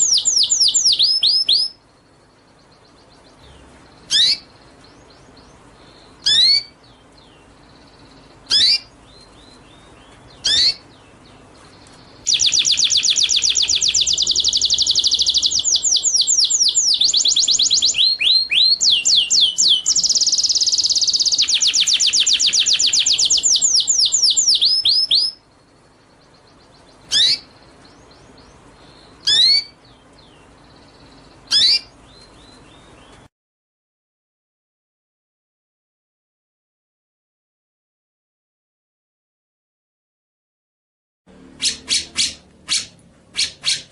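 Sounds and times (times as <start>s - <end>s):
songbird calling: 0.0s - 33.3s, 41.6s - 43.9s.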